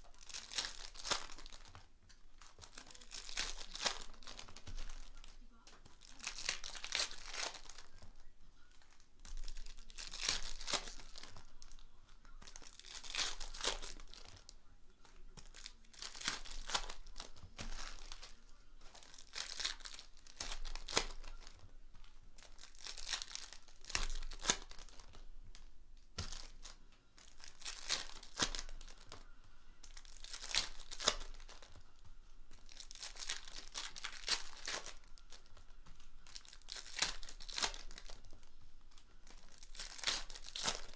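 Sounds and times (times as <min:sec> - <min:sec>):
foil wrappers tearing and crinkling: 0:00.0 - 0:14.5, 0:15.1 - 0:29.2, 0:29.8 - 0:31.8, 0:32.5 - 0:40.9.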